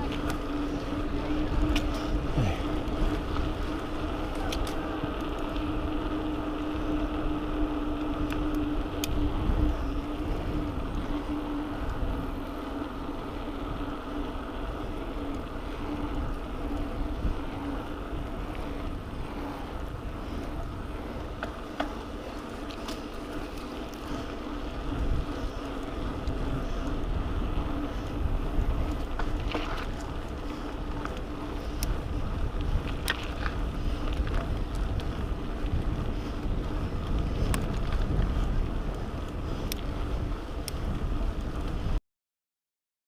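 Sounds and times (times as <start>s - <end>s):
bike clicks and rattles: 0.0s - 42.0s
bike tyres rumbling on dirt: 0.0s - 42.0s
wind buffeting microphone: 0.0s - 42.0s.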